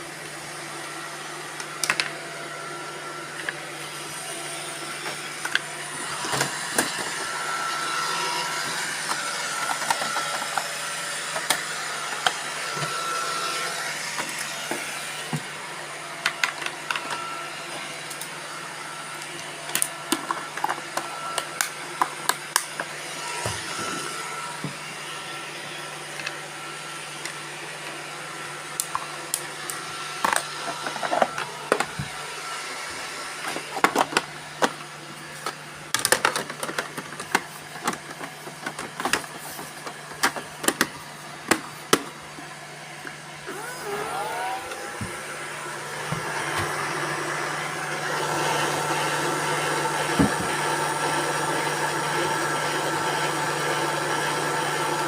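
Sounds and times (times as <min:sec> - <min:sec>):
robot vacuum cleaners humming: 0:00.0 - 0:55.0.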